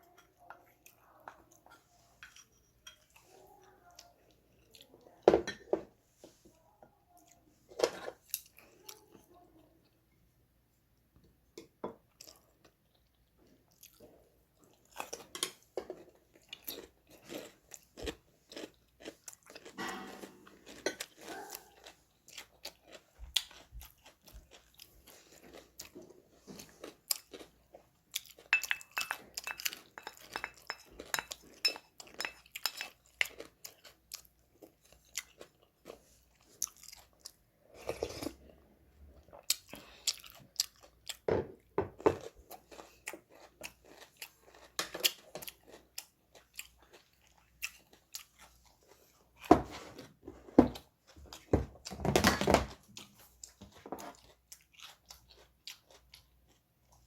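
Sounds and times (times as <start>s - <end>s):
person chewing and crunching food: 0.0s - 5.2s, 11.2s - 57.0s.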